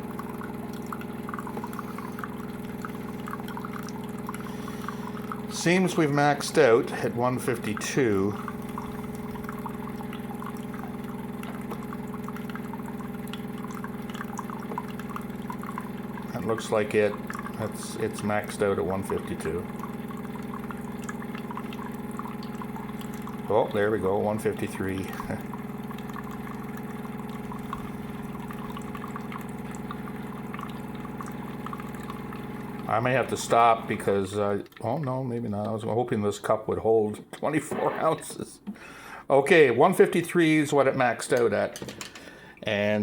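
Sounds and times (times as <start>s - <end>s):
coffee dripping into cup: 0.0s - 35.8s
coffee machine pump humming: 0.0s - 35.8s.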